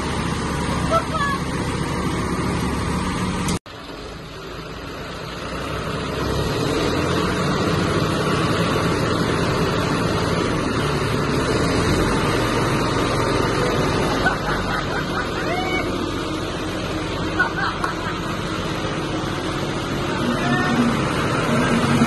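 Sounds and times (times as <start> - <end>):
tractor diesel engines under load: 0.0 - 22.0.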